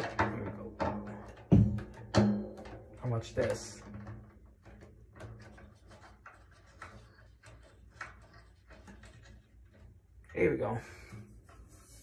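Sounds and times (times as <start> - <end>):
drum hardware clicking and rubbing: 0.0 - 12.0.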